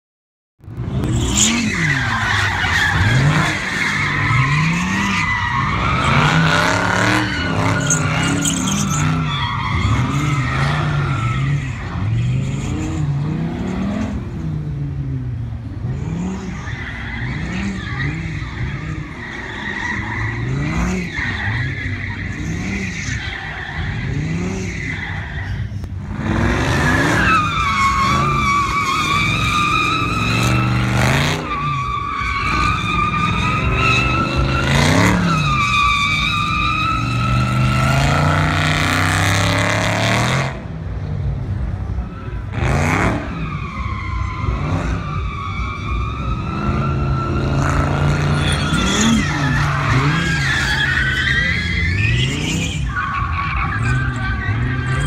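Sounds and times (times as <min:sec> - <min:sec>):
tires squealing: 0:00.7 - 0:14.5, 0:15.6 - 0:55.0
car engines revving hard: 0:00.7 - 0:55.0.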